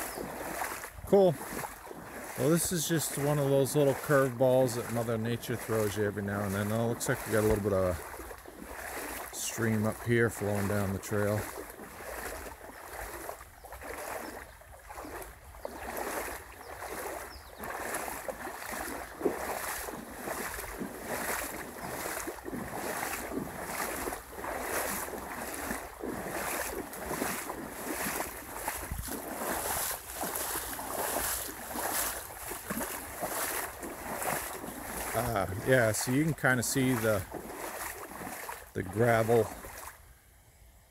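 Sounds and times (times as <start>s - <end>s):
boots sloshing through water: 0.0s - 40.3s
flowing water: 0.0s - 40.8s.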